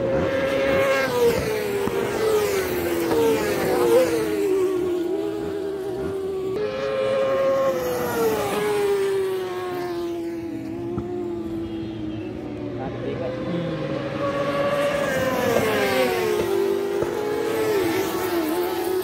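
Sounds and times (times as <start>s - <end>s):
racing motorcycle engine high revs: 0.0s - 19.0s.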